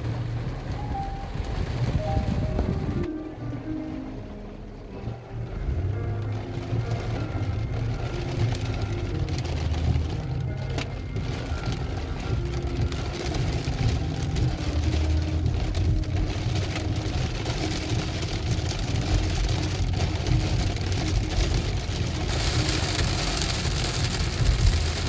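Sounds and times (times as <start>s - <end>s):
rain hissing on car: 0.0s - 25.0s
road and engine rumble: 0.0s - 25.0s.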